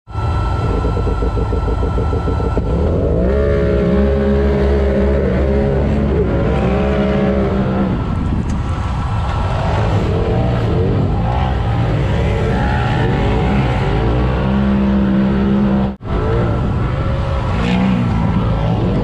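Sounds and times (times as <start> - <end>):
vehicle engine idling and revving: 0.1 - 19.0.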